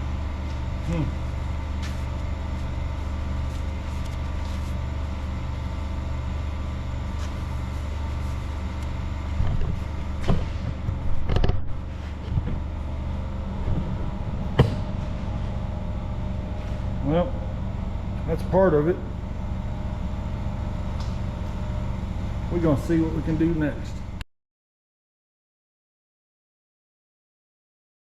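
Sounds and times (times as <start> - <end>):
low mechanical hum: 0.0 - 24.3.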